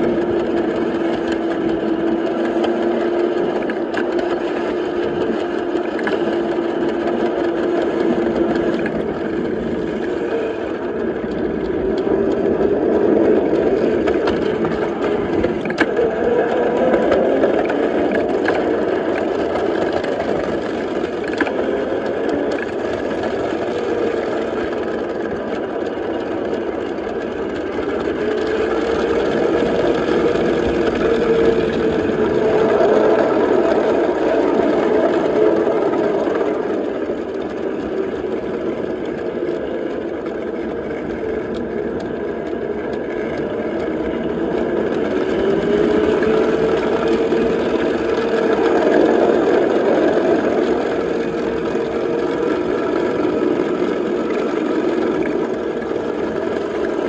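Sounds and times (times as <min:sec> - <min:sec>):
miniature locomotive drive hum: 0:00.0 - 0:57.0
wheels clicking on rails: 0:00.0 - 0:57.0.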